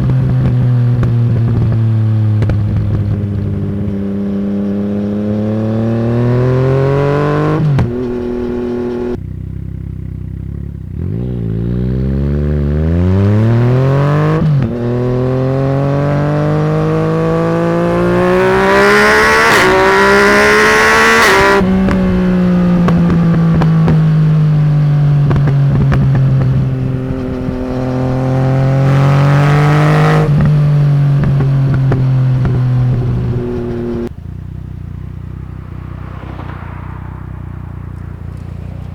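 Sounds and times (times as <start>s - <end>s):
exhaust popping: 0.0s - 9.7s, 13.0s - 38.9s
motorcycle engine accelerating: 0.0s - 38.9s.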